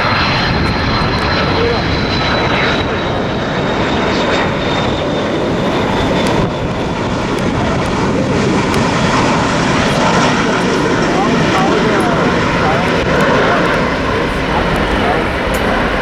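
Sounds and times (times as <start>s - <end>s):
high jet whine: 0.0s - 16.0s
jet engines rushing: 0.0s - 16.0s.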